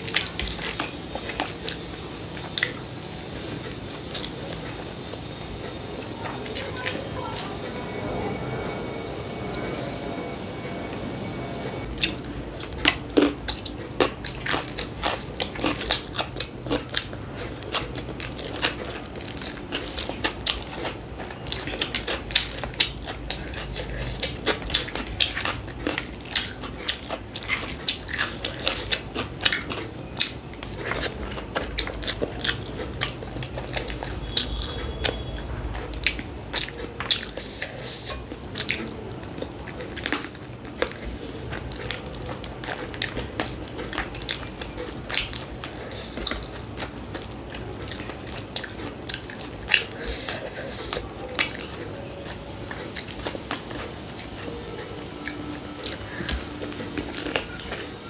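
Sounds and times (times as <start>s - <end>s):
person chewing crunchy food: 0.0s - 6.9s, 11.8s - 58.0s.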